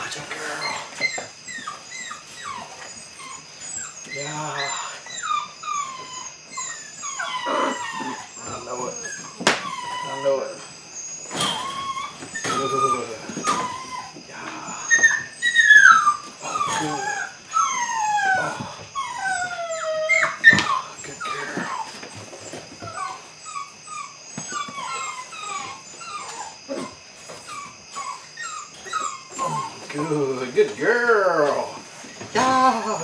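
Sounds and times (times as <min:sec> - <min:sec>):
puppy whining and yipping: 0:00.4 - 0:33.0.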